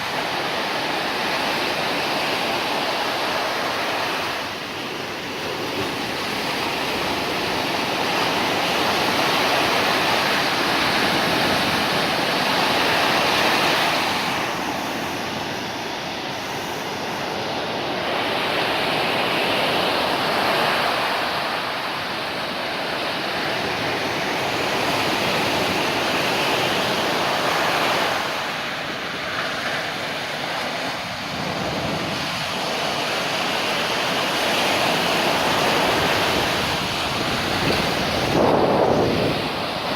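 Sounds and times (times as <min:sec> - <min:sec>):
surf roaring on beach: 0:00.0 - 0:39.9.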